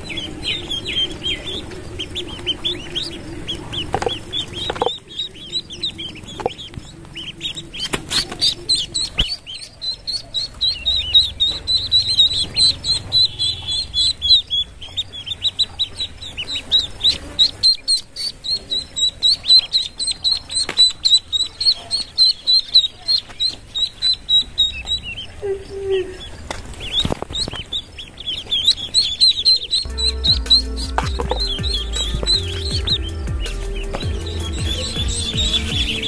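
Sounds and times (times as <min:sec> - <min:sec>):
ducklings peeping: 0:00.0 - 0:36.0.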